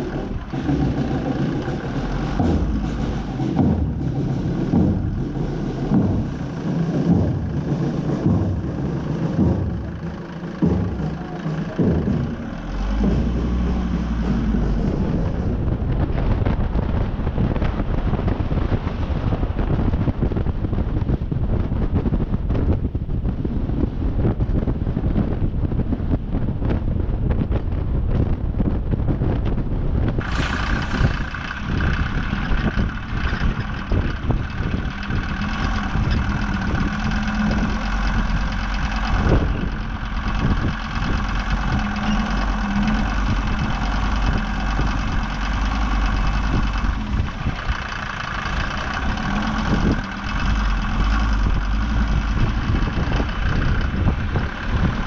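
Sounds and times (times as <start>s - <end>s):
car engine droning: 0.0s - 55.0s
steady engine hum: 0.0s - 55.0s
wind buffeting microphone: 0.0s - 55.0s.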